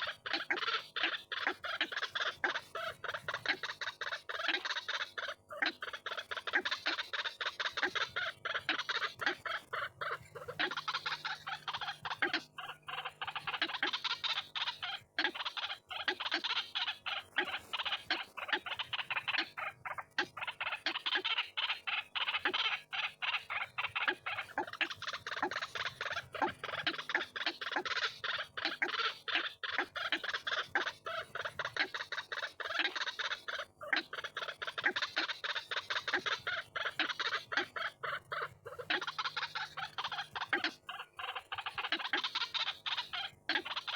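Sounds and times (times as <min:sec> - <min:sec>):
bird calling rapid harsh notes: 0:00.0 - 0:43.9.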